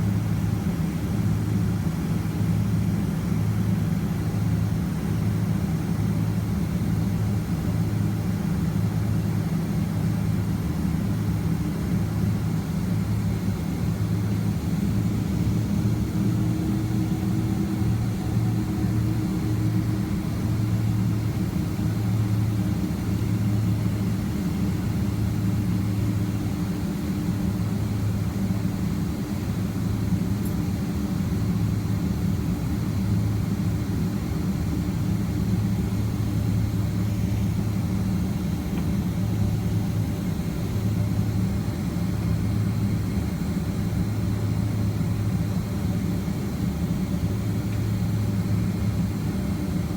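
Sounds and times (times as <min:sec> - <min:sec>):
jet engines humming in cabin: 0:00.0 - 0:49.9.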